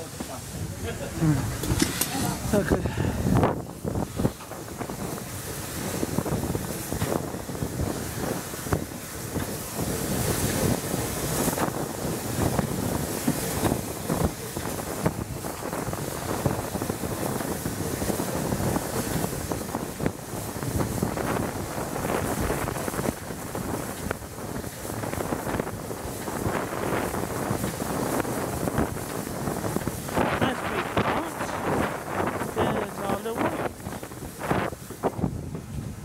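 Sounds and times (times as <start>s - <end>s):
steam locomotive hissing: 0.0s - 35.1s
wind rumbling on microphone: 0.0s - 36.0s.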